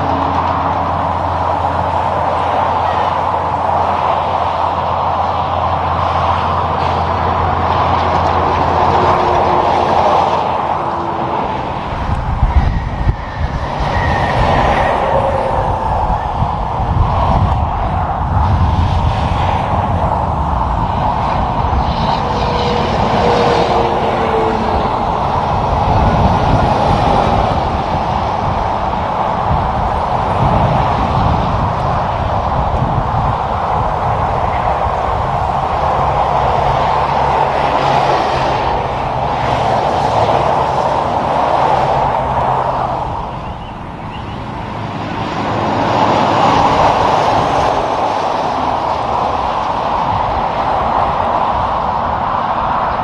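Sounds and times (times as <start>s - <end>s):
highway traffic: 0.0s - 53.0s
truck tyre and diesel engine noise: 0.0s - 53.0s.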